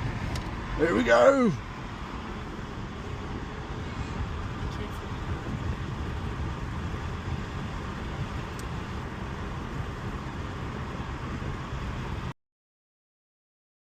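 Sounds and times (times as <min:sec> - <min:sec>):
car engine and road noise: 0:00.0 - 0:12.4.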